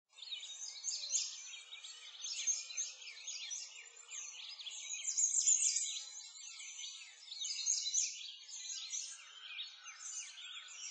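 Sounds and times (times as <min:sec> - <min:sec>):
birds chirping and singing: 0:00.2 - 0:10.9.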